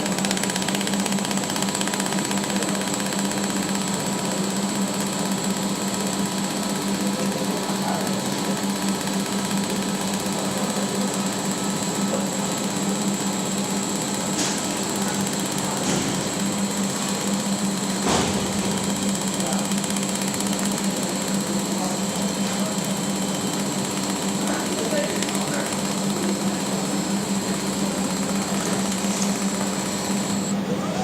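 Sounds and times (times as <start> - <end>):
welding machine buzzing: 0.0 - 30.7.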